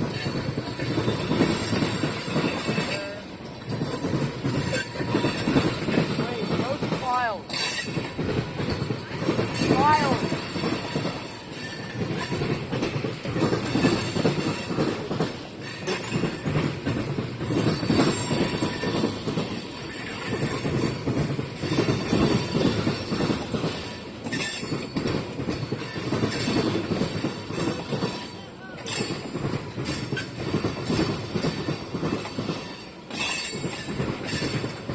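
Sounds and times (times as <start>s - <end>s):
freight train rolling past: 0.0s - 34.9s
train wheels clacking over rail joints: 0.0s - 34.9s.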